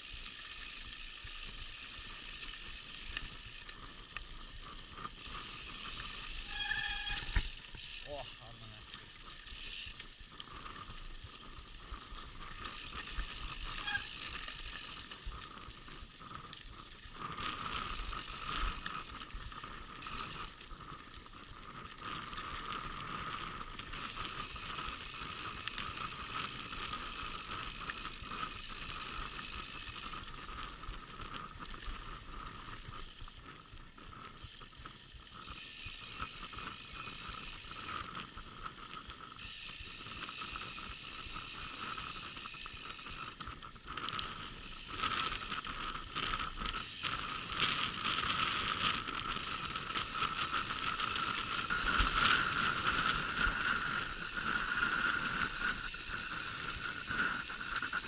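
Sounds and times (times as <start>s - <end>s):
bike chain rattling: 0.0s - 58.0s
bike tyres on dirt track: 0.0s - 58.0s.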